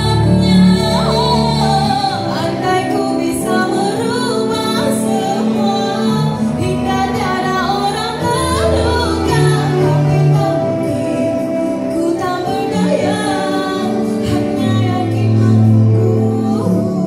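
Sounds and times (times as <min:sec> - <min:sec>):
women singing duet: 0:00.0 - 0:17.0.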